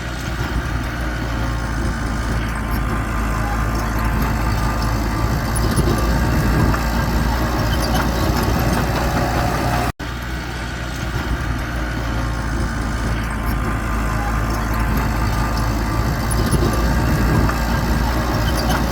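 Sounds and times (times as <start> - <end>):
diesel engine humming: 0.0 - 18.9.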